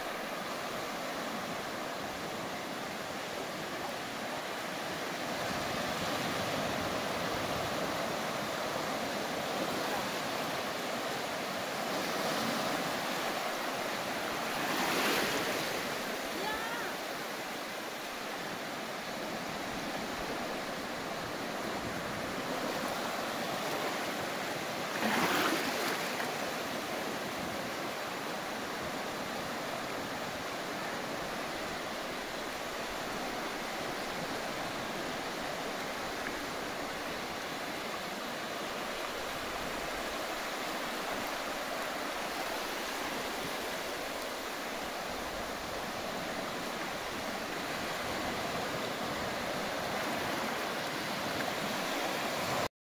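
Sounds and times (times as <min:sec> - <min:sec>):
waves washing onto beach: 0:00.0 - 0:52.7.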